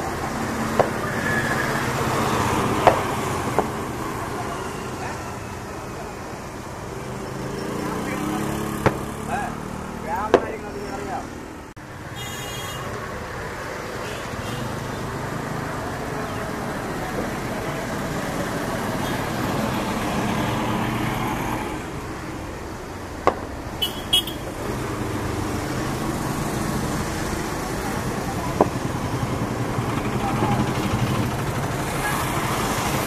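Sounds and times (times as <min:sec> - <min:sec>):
traffic noise: 0:00.0 - 0:33.0.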